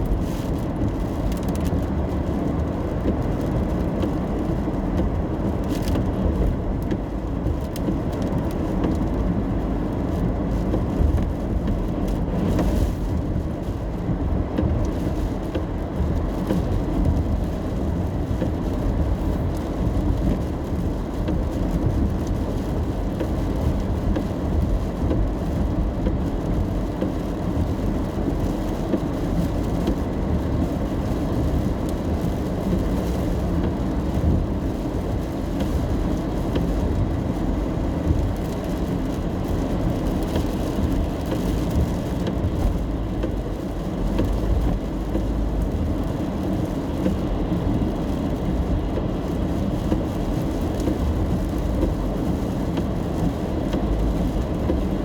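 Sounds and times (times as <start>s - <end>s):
car driving rumble: 0.0s - 55.0s
rain on car: 0.0s - 55.0s.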